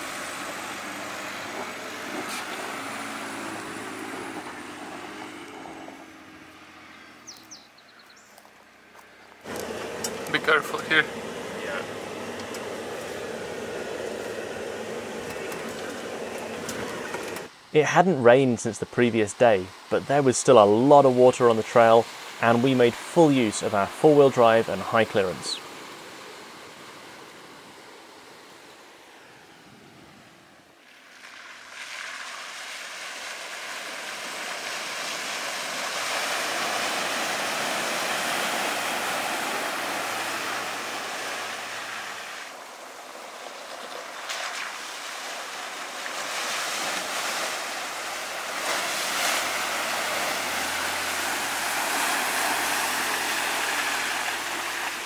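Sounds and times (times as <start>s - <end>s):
faint low engine hum: 0.0s - 31.0s, 33.3s - 55.0s
truck driving on wet dirt trail: 0.0s - 55.0s.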